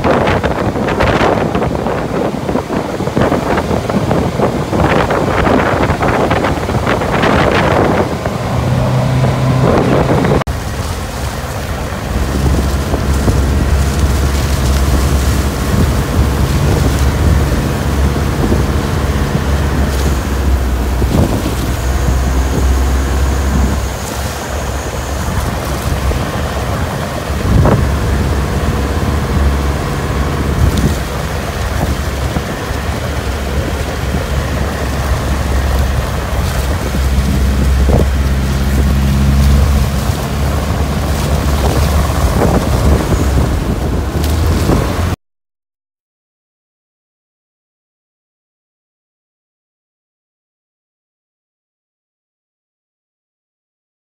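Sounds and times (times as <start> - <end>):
boat engine running: 0.0 - 45.2
water splashes: 0.0 - 45.2
waves washing against hull: 0.0 - 45.2
wind buffeting microphone: 0.0 - 45.2.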